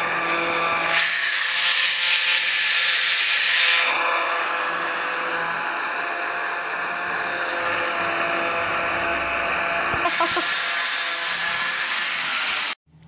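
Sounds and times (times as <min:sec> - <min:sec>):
angle grinder cutting metal: 0:00.0 - 0:12.8.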